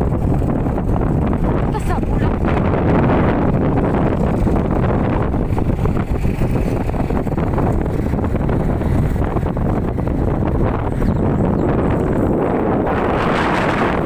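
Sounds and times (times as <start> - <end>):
motorcycle road and engine noise: 0.0 - 14.0
wind buffeting microphone: 0.0 - 14.0.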